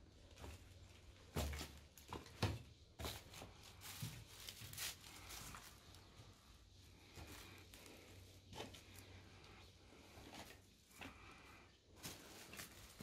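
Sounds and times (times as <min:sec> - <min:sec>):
footsteps over dry debris: 0:00.2 - 0:13.0.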